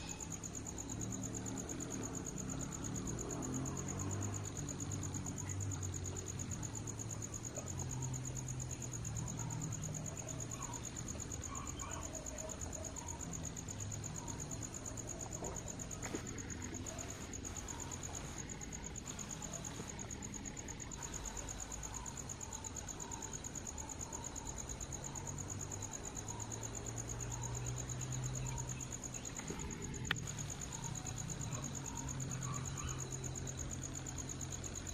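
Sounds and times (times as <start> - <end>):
high-pitched insect trill: 0.0 - 34.9.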